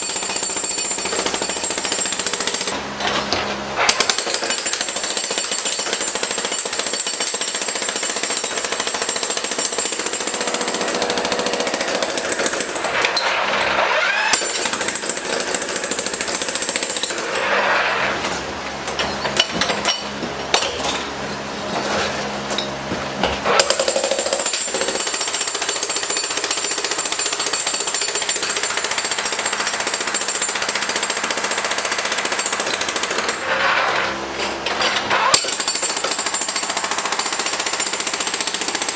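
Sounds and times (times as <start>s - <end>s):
jackhammer hammering concrete: 0.0s - 17.4s, 21.9s - 38.9s.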